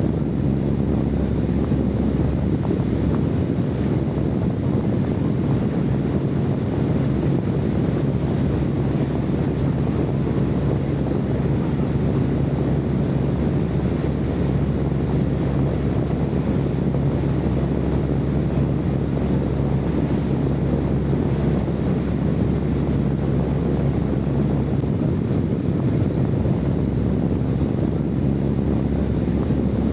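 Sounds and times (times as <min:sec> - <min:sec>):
constant low hum: 0:00.0 - 0:29.9
low rumbling noise: 0:00.0 - 0:29.9.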